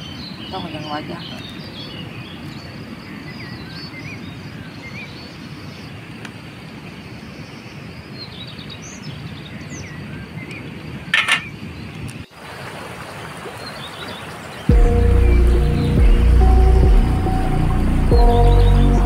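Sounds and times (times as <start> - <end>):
small birds chirping: 0.0 - 12.3, 13.4 - 19.0
low outdoor noise: 0.0 - 19.0.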